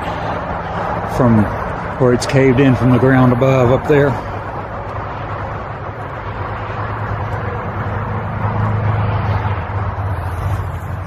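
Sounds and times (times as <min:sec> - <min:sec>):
highway traffic hum: 0:00.0 - 0:11.0.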